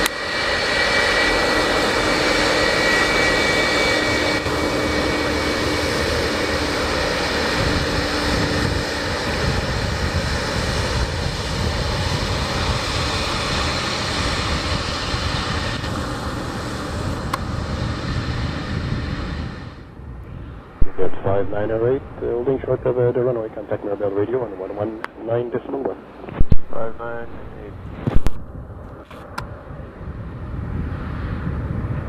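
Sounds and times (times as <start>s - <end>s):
high jet whine: 0.0s - 32.0s
jet engines running: 0.0s - 32.0s.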